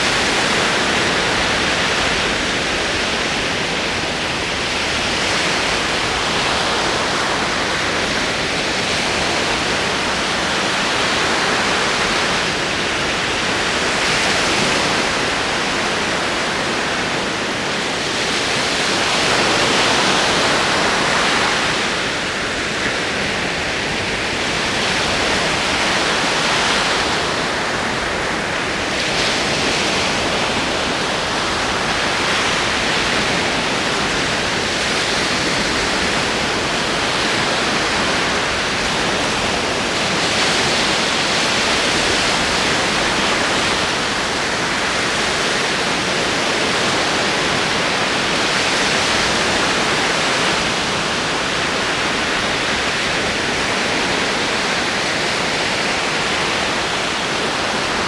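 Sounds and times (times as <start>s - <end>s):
ocean waves rolling in: 0.0s - 58.0s.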